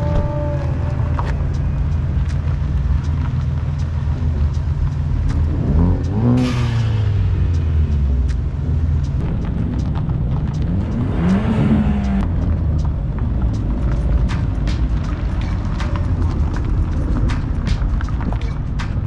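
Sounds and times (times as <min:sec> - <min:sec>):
car engine droning: 0:00.0 - 0:19.0
engine revving up: 0:00.0 - 0:19.0
rush of noise: 0:00.0 - 0:19.0.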